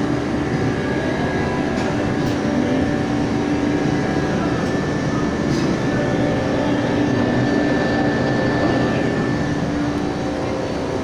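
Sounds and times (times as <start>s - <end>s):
mechanical drone with hum: 0.0s - 11.0s.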